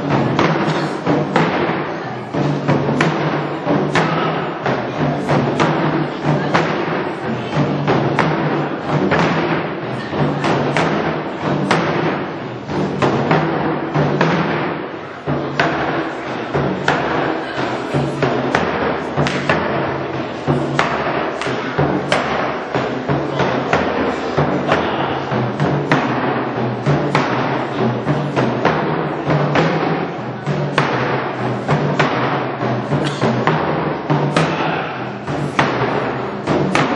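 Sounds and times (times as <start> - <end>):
drum ensemble playing: 0.0 - 36.9.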